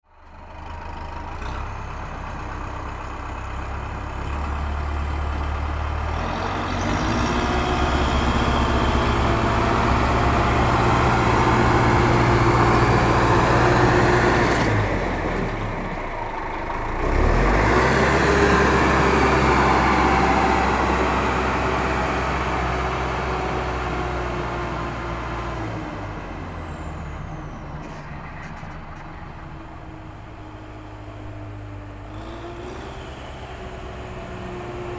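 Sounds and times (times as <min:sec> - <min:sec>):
heavy vehicle engine running: 0:00.1 - 0:34.9.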